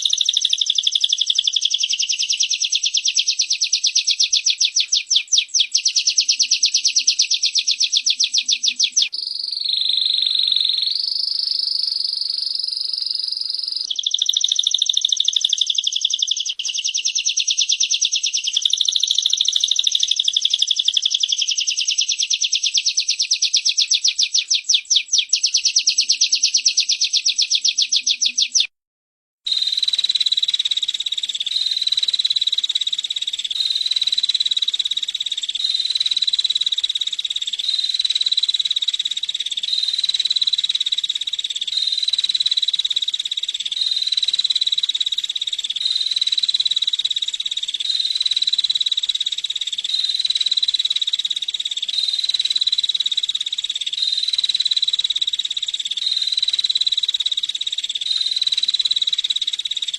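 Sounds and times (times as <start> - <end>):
bird ticking trill: 0.0 - 28.7, 29.5 - 59.9
high buzzing bird trill: 0.0 - 28.7, 29.5 - 59.9.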